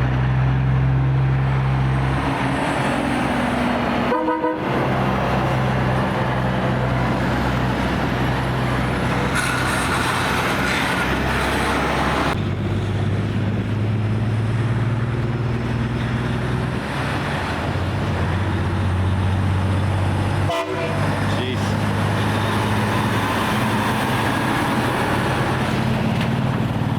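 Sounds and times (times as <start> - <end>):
truck diesel engine drone: 0.0 - 26.9
tyre and road noise: 0.0 - 26.9.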